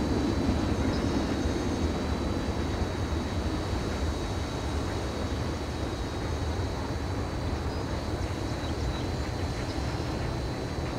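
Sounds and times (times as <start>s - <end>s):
distant diesel train rumble: 0.0s - 10.9s.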